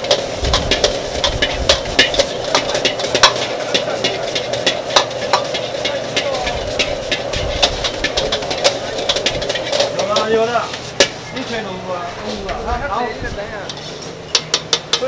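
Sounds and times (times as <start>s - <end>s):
metal ladle scraping a wok: 0.0s - 12.8s, 13.6s - 15.0s
rice sizzling: 0.0s - 15.0s
steady hiss: 0.0s - 15.0s.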